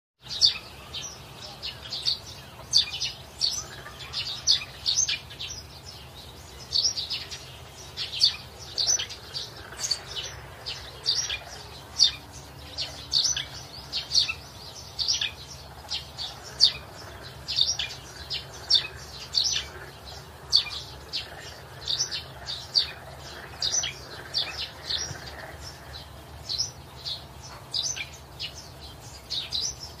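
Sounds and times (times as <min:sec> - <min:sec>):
small birds chirping: 0:00.2 - 0:30.0
faint low background hum: 0:00.3 - 0:30.0.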